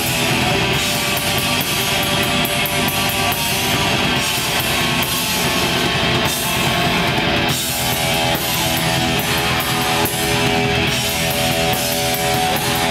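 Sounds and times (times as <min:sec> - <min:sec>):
distorted electric guitars: 0:00.0 - 0:12.9
drums: 0:00.0 - 0:12.9.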